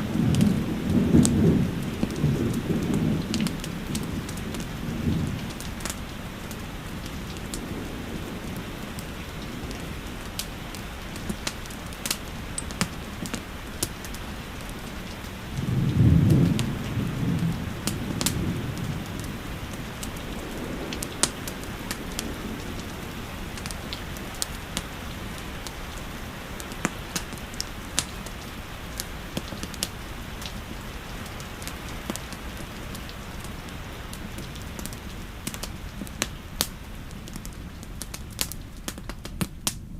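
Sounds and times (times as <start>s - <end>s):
rain hissing: 0.0s - 39.9s
wood fire crackling: 0.0s - 39.9s.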